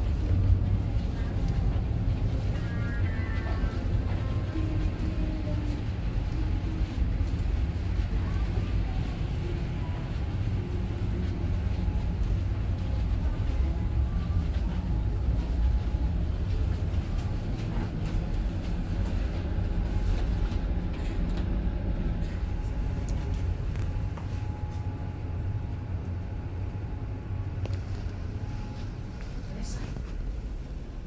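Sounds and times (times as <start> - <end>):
moving vehicle rumble: 0.0 - 31.0.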